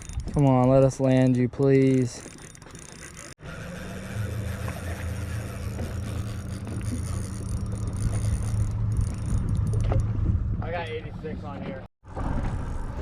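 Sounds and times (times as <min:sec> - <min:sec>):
outboard motor humming: 0:01.9 - 0:13.0.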